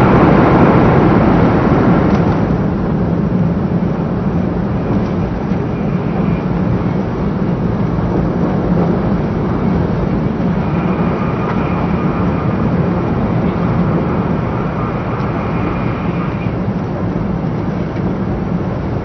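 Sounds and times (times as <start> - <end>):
train interior rumble and hiss: 0.0 - 19.0.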